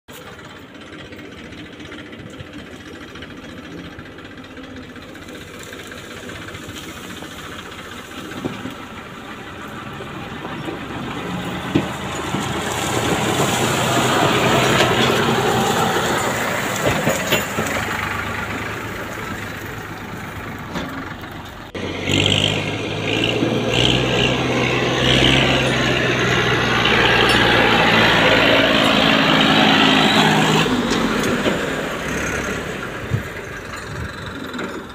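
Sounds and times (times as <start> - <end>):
tractor diesel engine: 0.0 - 34.9.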